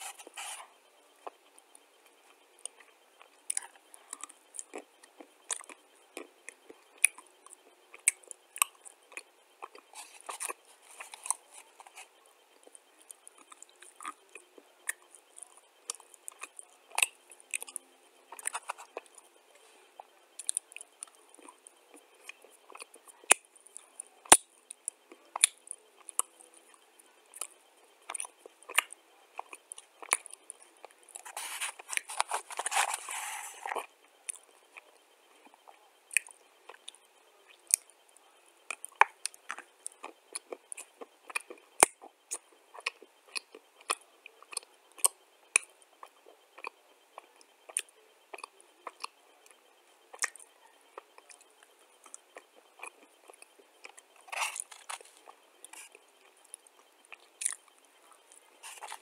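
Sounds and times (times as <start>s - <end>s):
person chewing crunchy clay: 2.0s - 59.0s.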